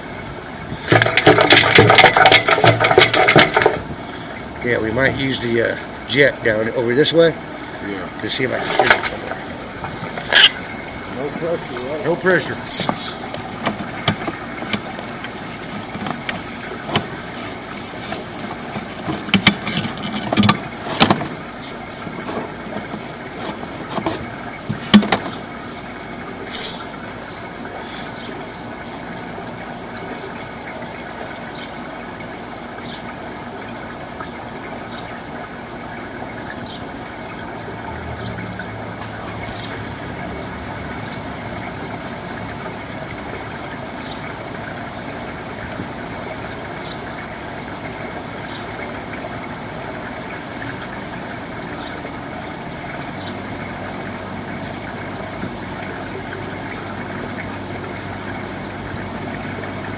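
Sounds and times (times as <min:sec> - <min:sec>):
engine and high-pressure pump running: 0:00.0 - 0:59.9.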